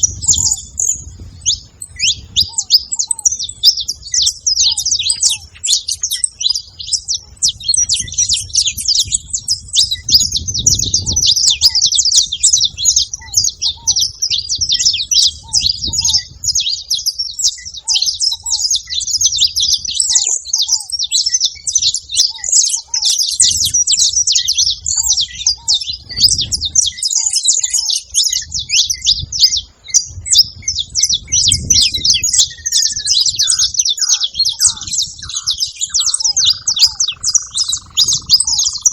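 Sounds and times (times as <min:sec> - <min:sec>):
finches chirping and singing: 0:00.0 - 0:38.9.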